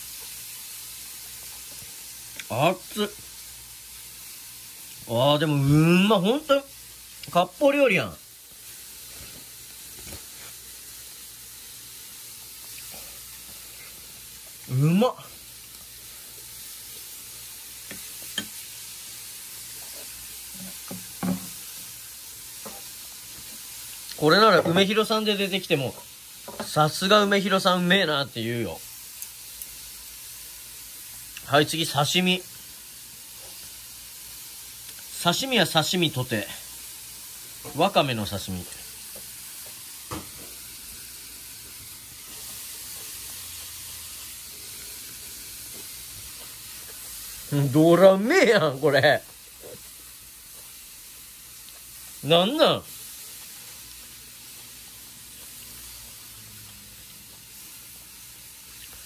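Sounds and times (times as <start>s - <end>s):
faint steady hiss: 0.0s - 59.0s
food sizzling in a pan: 0.0s - 59.0s.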